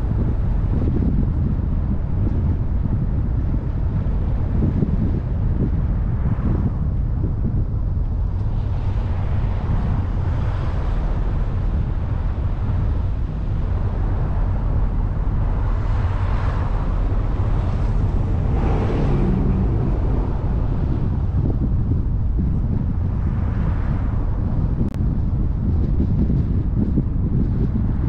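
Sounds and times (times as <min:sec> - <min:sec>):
car driving rumble: 0:00.0 - 0:28.0
wind buffeting microphone: 0:00.0 - 0:28.0.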